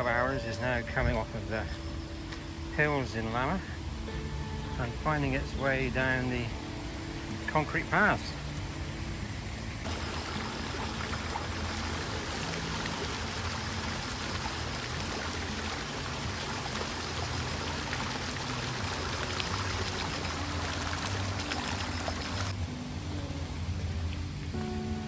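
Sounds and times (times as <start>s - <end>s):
water pouring and trickling: 0.0s - 24.8s.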